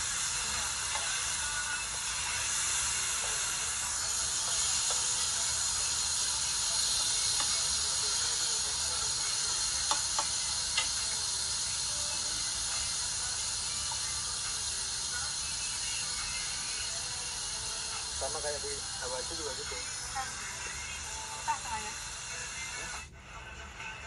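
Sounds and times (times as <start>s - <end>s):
meat sizzling on grill: 0.0s - 22.9s.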